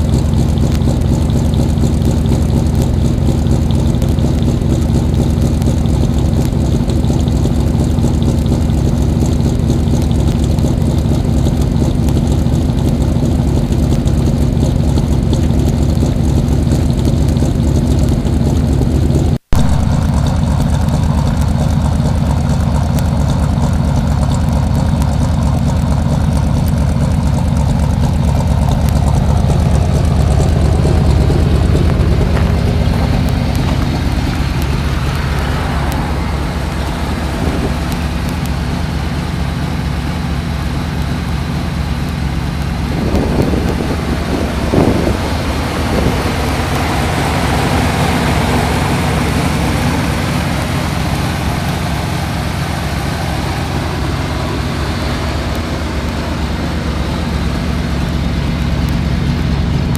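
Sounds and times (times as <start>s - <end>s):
car engine idling rough: 0.0s - 59.9s.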